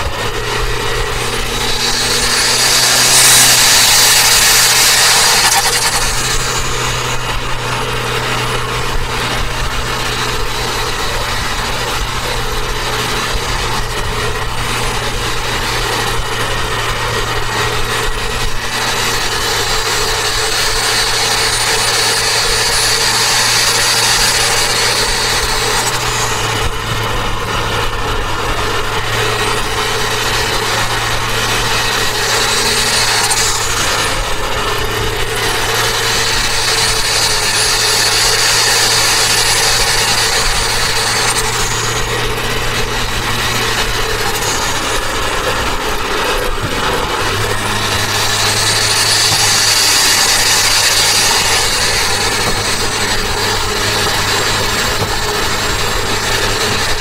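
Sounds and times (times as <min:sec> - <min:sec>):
car engine running: 0:00.0 - 0:57.0
high turbo whistle: 0:00.0 - 0:57.0
road noise: 0:00.0 - 0:57.0.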